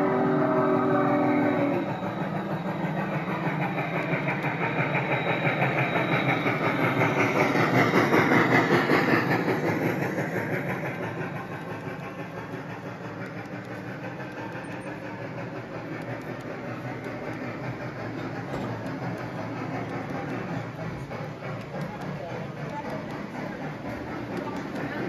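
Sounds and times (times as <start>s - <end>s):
model train steam chuffing: 0.0s - 25.0s
wheels rumbling on track: 0.0s - 25.0s.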